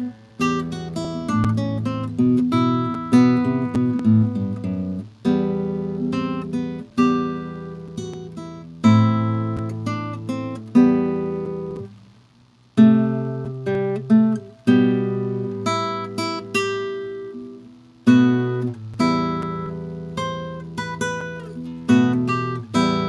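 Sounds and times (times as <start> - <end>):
classical guitar plucked: 0.0 - 11.9, 12.8 - 23.0.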